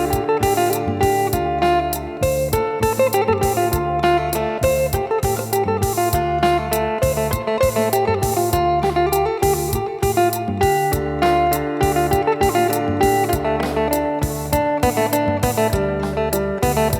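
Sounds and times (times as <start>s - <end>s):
fast even beat: 0.0s - 16.9s
low bass line: 0.0s - 16.9s
lute plucking a quick melody: 0.0s - 16.9s.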